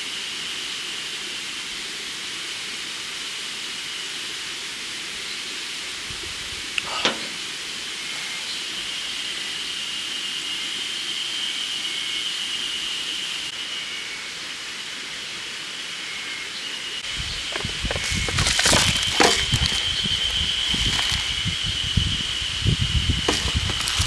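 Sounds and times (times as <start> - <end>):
cicadas calling: 4.7 - 24.0.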